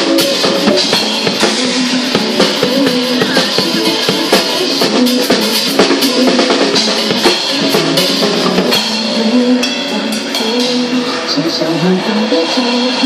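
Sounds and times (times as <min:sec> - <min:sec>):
drum kit beat: 0:00.0 - 0:11.2
pop song backing music: 0:00.0 - 0:13.0.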